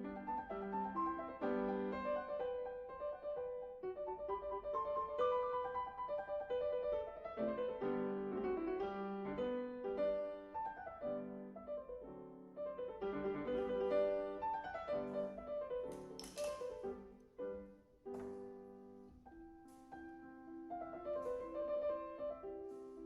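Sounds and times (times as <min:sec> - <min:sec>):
classical piano music: 0:00.0 - 0:23.0.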